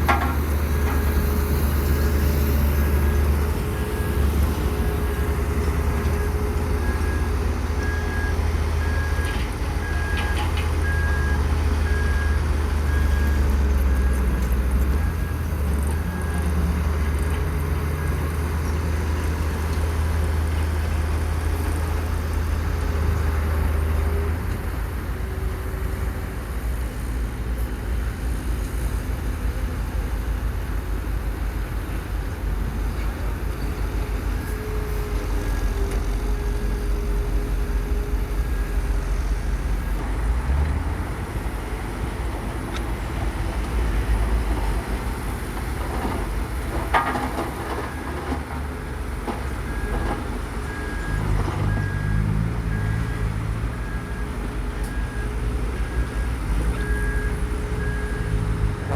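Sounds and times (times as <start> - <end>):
construction vehicle engines running: 0.0 - 58.9.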